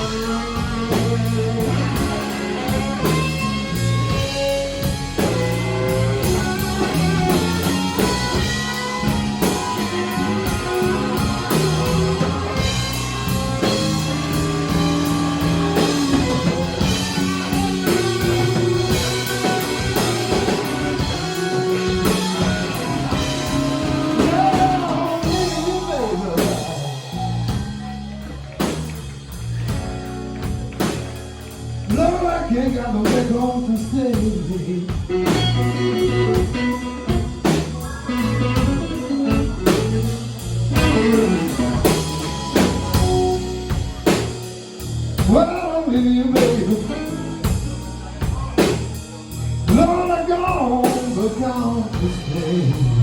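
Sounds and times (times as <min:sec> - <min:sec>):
electric guitar bending notes: 0:00.0 - 0:53.0
steady drum beat: 0:00.0 - 0:53.0.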